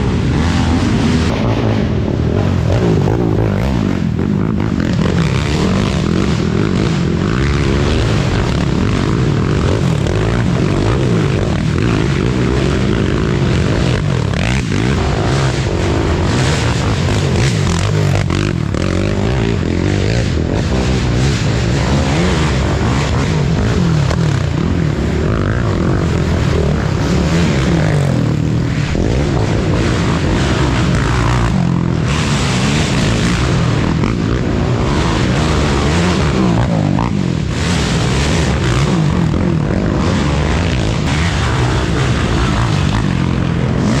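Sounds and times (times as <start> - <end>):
quad engines revving: 0.0 - 44.0.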